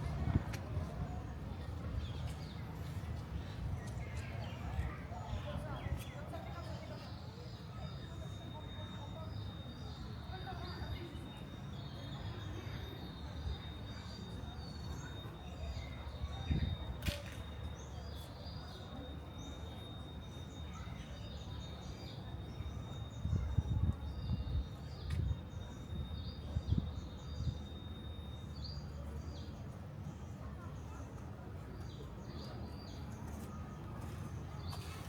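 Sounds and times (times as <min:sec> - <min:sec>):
steady outdoor hum: 0:00.0 - 0:35.0.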